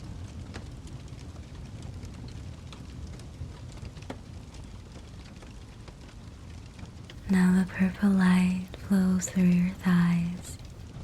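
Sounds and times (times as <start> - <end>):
fire crackling and popping: 0.0 - 11.0.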